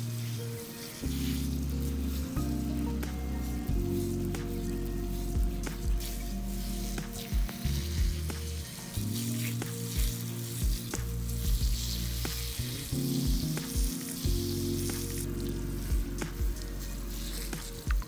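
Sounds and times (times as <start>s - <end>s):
water jet hissing from sprayer: 0.0s - 18.0s
water spattering on soil: 0.0s - 18.0s.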